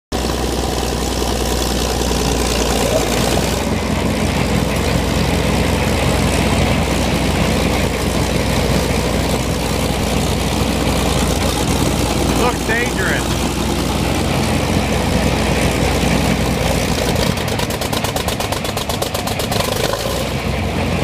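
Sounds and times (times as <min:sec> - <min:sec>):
heavy truck engine idling: 0:00.1 - 0:21.0.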